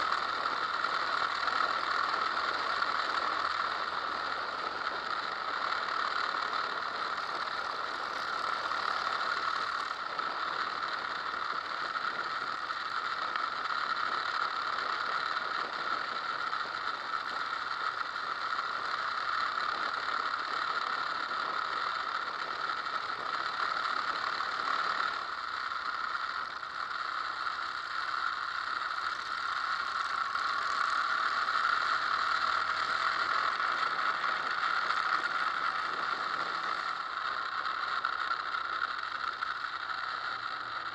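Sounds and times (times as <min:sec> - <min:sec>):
motorcycle wind and vibration noise: 0:00.0 - 0:40.9.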